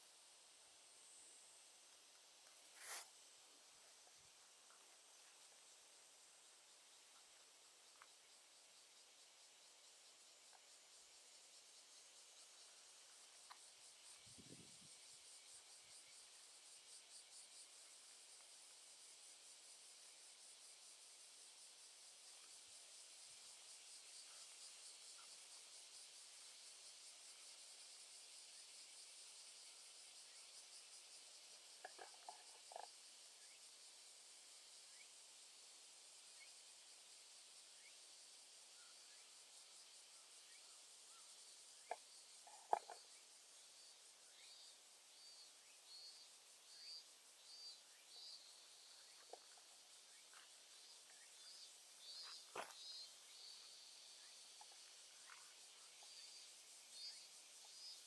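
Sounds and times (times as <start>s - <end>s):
insect chirp: 0.0s - 58.0s
insects chirring: 0.0s - 58.0s.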